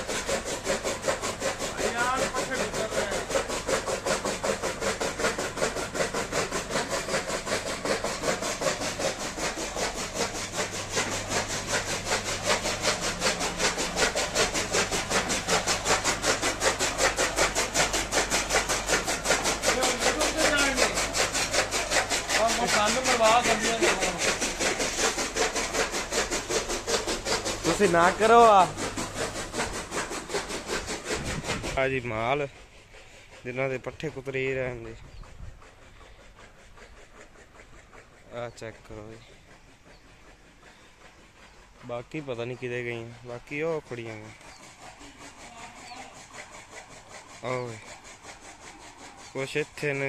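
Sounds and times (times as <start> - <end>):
chaff cutter blades chopping: 0.0 - 50.0
motor hum: 0.0 - 50.0.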